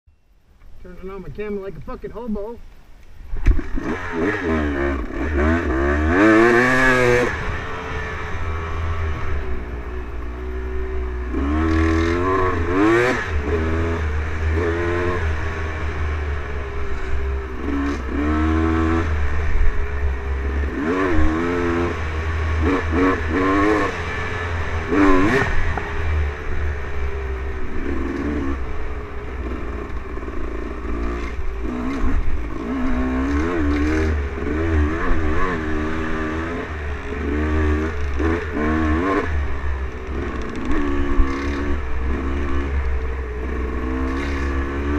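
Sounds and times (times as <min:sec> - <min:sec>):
dirt bike engine revving: 0:03.4 - 0:44.9.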